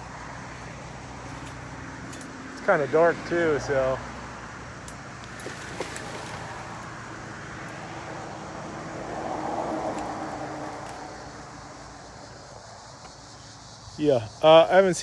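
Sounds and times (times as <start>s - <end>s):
passing vehicle rush: 0.0s - 12.9s.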